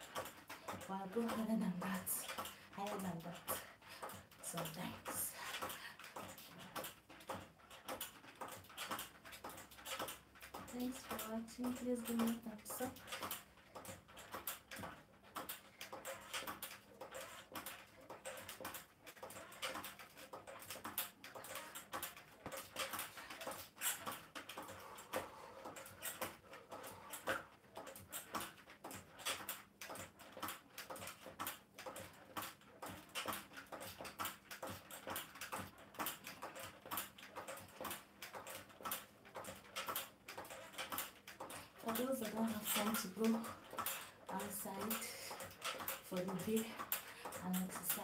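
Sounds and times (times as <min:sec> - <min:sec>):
stepper pedals clacking and creaking: 0:00.0 - 0:48.0.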